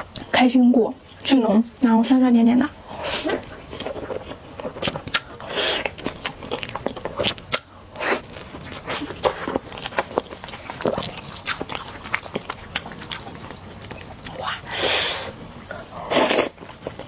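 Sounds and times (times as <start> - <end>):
person crunching and chewing food: 2.8 - 17.0.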